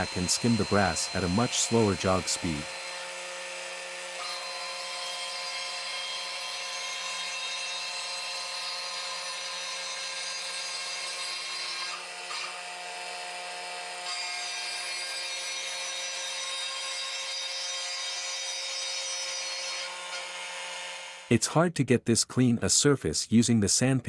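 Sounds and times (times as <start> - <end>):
router whining while cutting wood: 0.0 - 21.3.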